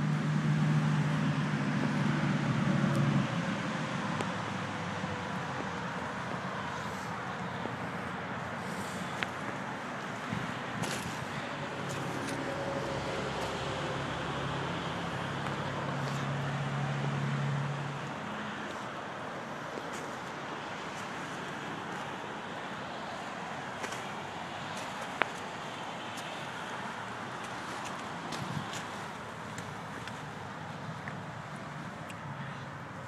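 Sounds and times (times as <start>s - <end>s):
traffic noise: 0.0s - 33.0s
vehicle engine hum: 0.0s - 33.0s.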